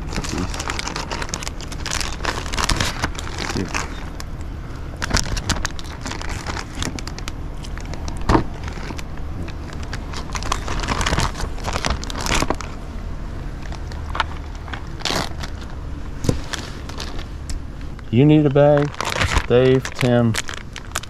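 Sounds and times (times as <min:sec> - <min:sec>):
plastic bag crinkling: 0:00.0 - 0:12.8, 0:13.5 - 0:21.0
low rumble: 0:00.0 - 0:21.0.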